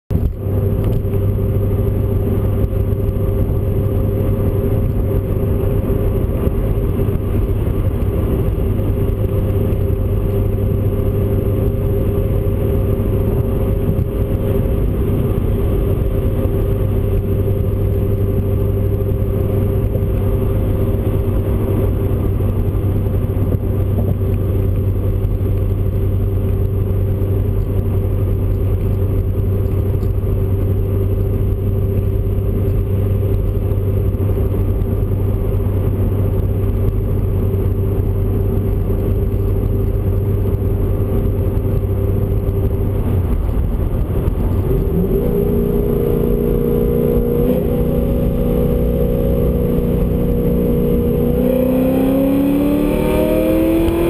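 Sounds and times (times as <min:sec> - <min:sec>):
car engine and exhaust drone: 0:00.1 - 0:54.0
road noise: 0:00.1 - 0:54.0.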